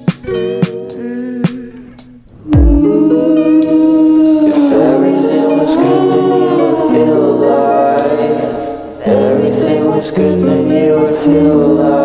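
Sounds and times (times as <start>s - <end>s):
layered voices singing: 2.4s - 12.0s.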